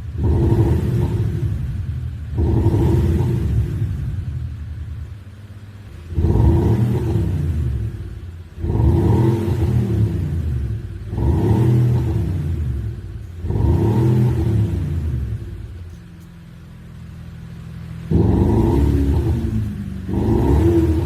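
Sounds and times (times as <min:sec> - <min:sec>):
synthesized exhaust throttle blips: 0:00.0 - 0:21.0.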